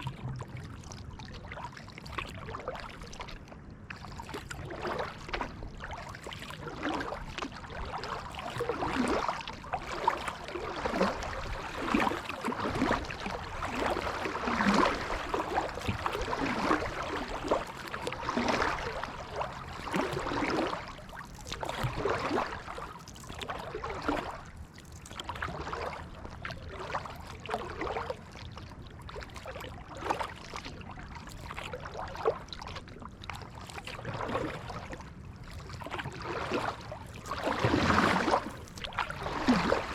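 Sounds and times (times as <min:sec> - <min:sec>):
kayak paddle splashing: 0:00.0 - 0:39.9
water trickling along hull: 0:00.0 - 0:39.9.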